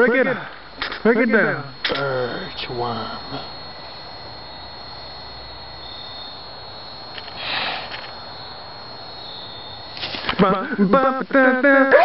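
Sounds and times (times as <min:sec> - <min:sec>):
faint high whine: 0:00.0 - 0:12.0
steady background hiss: 0:00.0 - 0:12.0.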